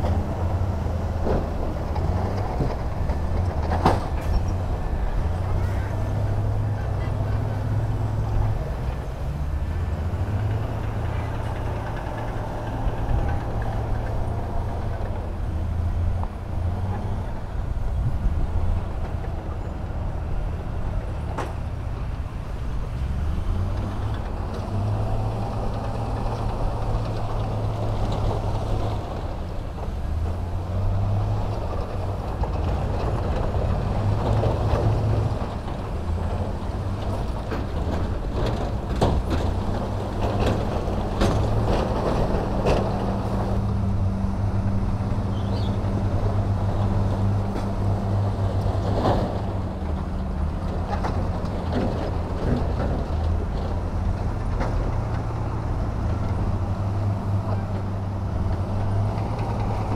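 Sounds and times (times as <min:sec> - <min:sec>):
heavy diesel machinery rumbling: 0:00.0 - 0:59.9.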